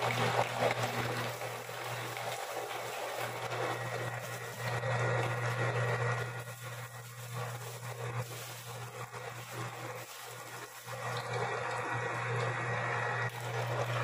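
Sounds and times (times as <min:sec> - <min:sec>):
electric meat grinder motor hum: 0:00.0 - 0:14.0.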